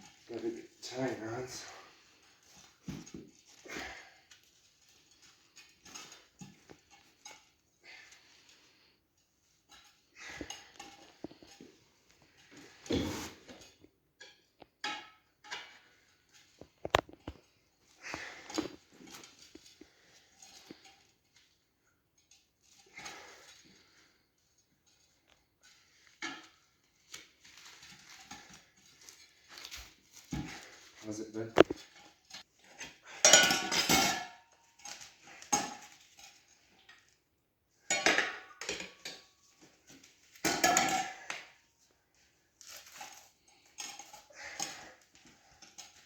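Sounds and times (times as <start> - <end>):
tire irons scraping and clinking: 0.0 - 37.1, 37.8 - 41.9, 42.6 - 46.0.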